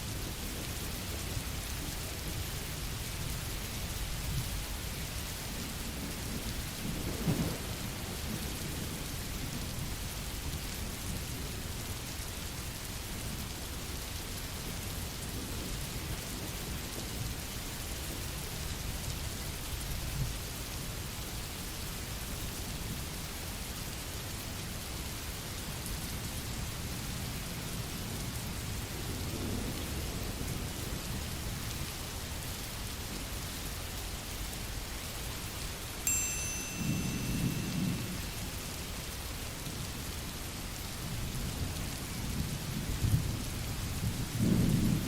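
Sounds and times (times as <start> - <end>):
steady rain: 0.0 - 45.0.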